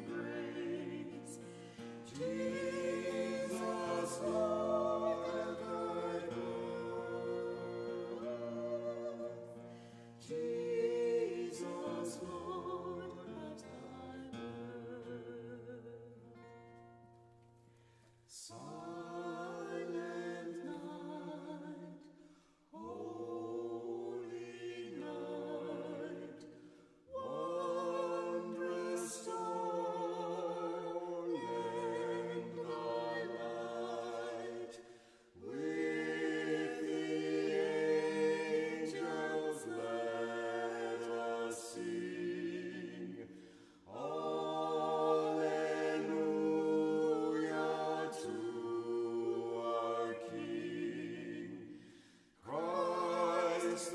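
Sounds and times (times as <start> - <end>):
choir singing a cappella: 0.0 - 17.1, 18.3 - 53.9.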